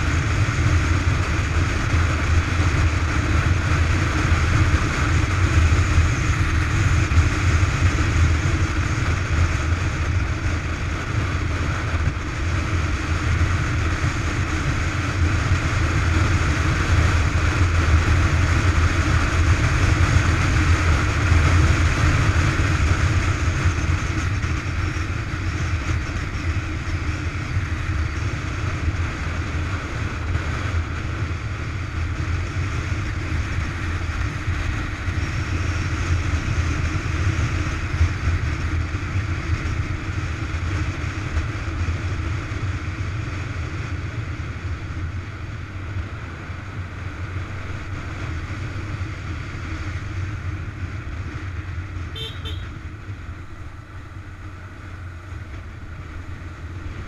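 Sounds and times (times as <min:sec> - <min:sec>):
motorcycle engine drone: 0:00.0 - 0:57.0
wind and road noise: 0:00.0 - 0:57.0.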